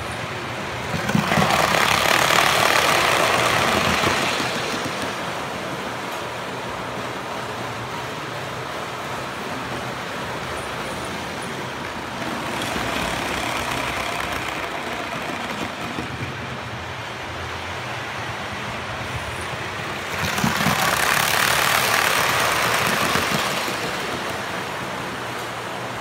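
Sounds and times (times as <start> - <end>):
model trains running: 0.0 - 26.0
train passing close by: 0.0 - 26.0.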